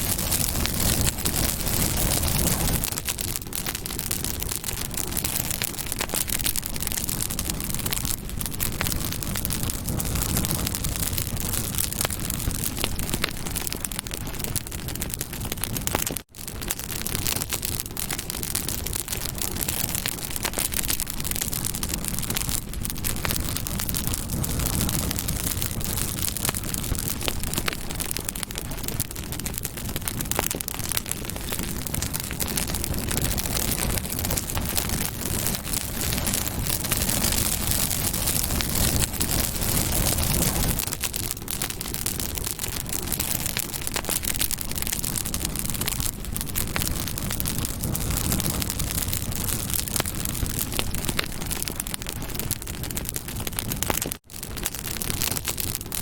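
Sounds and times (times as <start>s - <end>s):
low rush of flames: 0.0s - 56.0s
wood crackling and popping: 0.0s - 56.0s.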